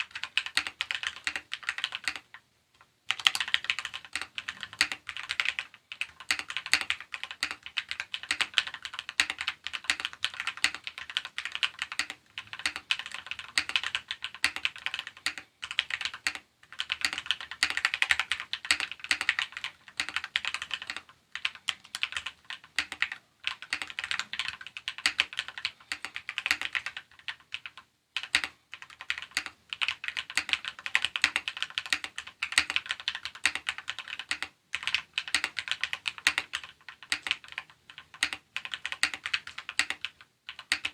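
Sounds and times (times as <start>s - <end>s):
mechanical keyboard typing: 0.0s - 2.4s, 3.1s - 40.9s.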